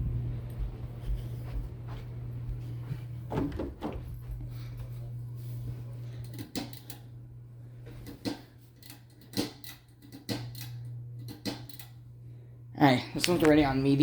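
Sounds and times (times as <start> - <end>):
ceiling fans humming: 0.0 - 14.0.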